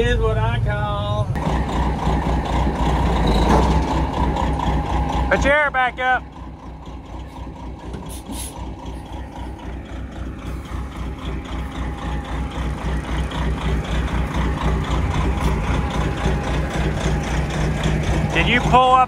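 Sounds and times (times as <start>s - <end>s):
diesel engine running low: 0.0s - 19.0s.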